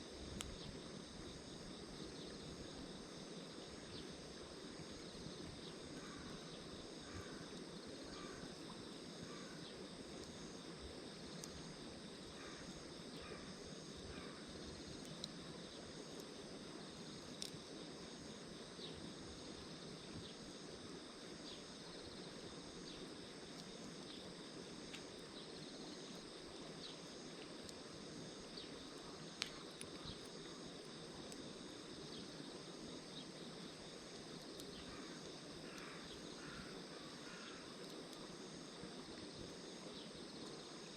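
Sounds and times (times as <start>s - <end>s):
insects trilling: 0.0s - 40.9s
low even hiss: 0.0s - 40.9s.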